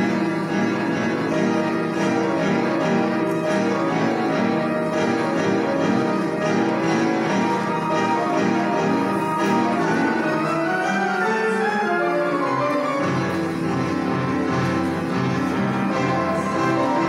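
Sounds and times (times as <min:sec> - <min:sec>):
upright piano playing: 0:00.0 - 0:17.0.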